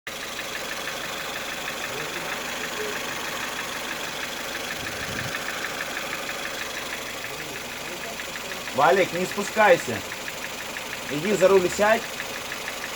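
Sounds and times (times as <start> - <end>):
car engine idling with knock: 0.1 - 12.9.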